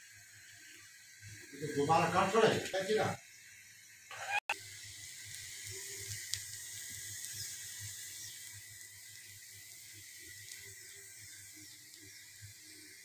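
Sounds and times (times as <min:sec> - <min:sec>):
flatbread sizzling in oil: 0:00.0 - 0:13.0.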